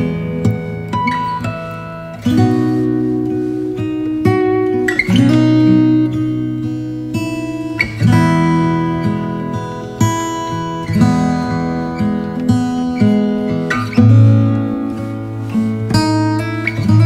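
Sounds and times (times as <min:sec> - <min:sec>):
plucked acoustic guitar tune: 0:00.0 - 0:17.0.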